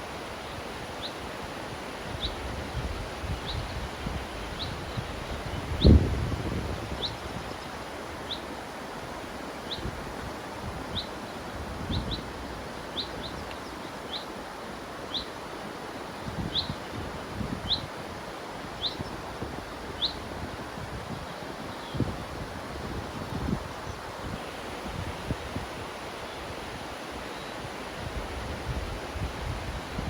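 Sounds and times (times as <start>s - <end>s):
river rushing: 0.0s - 30.0s
wind gusts on microphone: 0.0s - 30.0s.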